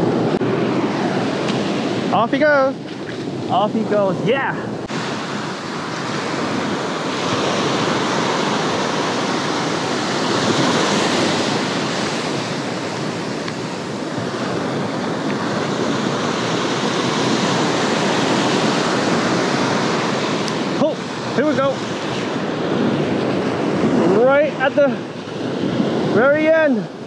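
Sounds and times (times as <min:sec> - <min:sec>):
surf washing up a beach: 0:00.0 - 0:27.0.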